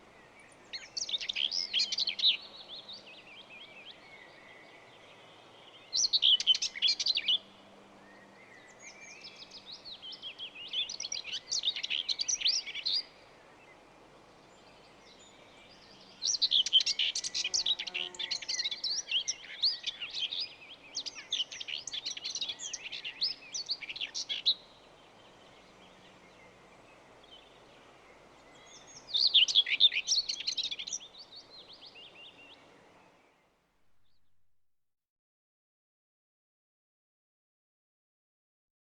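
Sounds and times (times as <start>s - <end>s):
songbirds twittering: 0.0s - 34.2s
faint background hiss: 0.0s - 34.5s.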